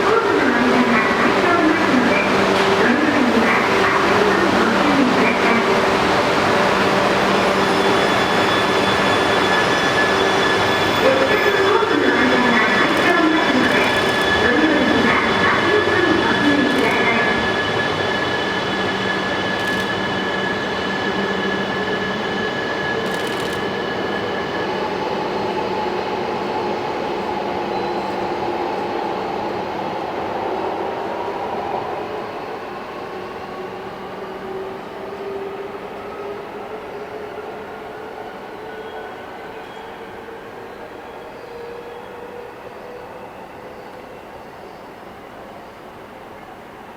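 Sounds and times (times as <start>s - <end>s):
train wheels on rail: 0.0s - 44.2s.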